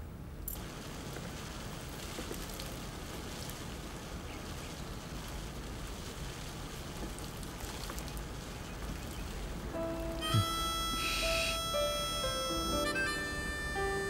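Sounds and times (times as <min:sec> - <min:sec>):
water splashing onto leaves: 0:00.5 - 0:14.0.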